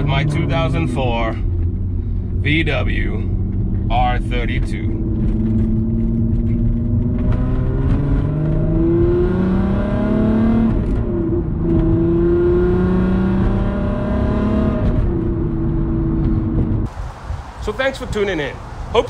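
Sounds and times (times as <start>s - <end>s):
car engine accelerating: 0.0s - 16.9s.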